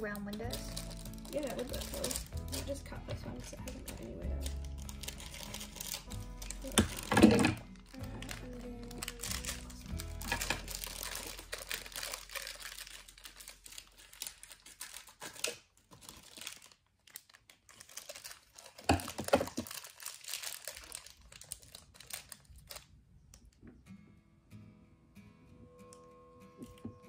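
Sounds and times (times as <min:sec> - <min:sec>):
wrapping crinkling and crumpling: 0:00.0 - 0:23.6.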